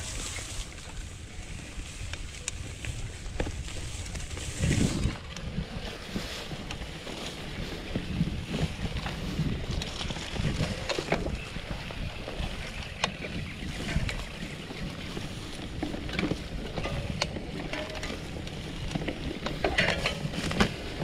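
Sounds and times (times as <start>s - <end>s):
bike rattling and knocking: 0.0s - 21.0s
grass swishing against bike: 0.0s - 21.0s
wind noise on microphone: 0.0s - 21.0s.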